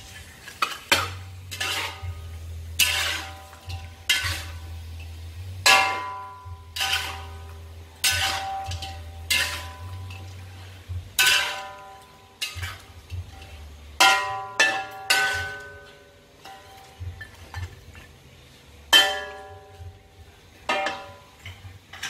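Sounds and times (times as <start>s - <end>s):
metal spatula striking wok: 0.5s - 17.7s, 18.9s - 20.0s, 20.6s - 22.0s.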